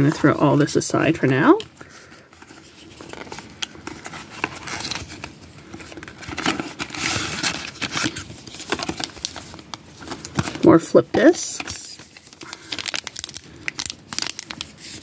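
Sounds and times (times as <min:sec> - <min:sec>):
cardboard box crinkling and tearing: 0:02.4 - 0:15.0.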